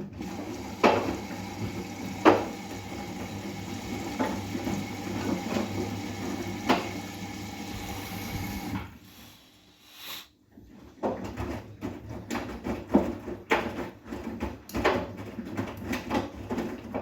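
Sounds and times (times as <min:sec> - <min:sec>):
washing machine drum tumbling laundry: 0:00.0 - 0:09.0, 0:10.6 - 0:17.0.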